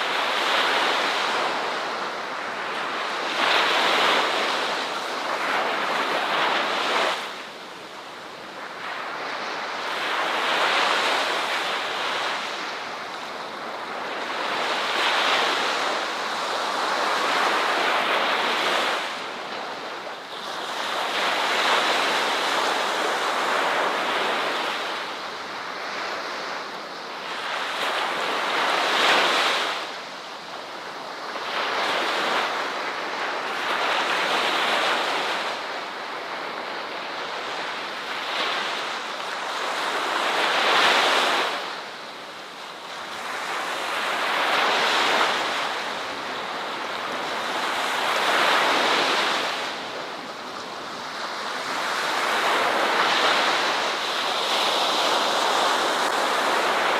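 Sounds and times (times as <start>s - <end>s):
ocean waves breaking: 0.0s - 30.0s, 30.7s - 56.9s.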